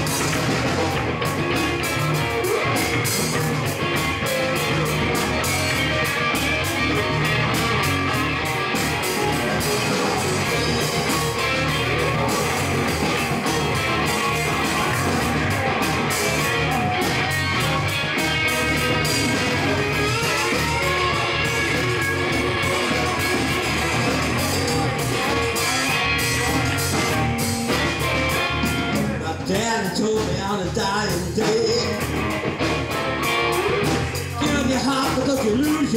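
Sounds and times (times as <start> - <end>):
electric bass: 0.0 - 35.9
electric guitar: 0.0 - 35.9
steady drum beat: 0.0 - 35.9.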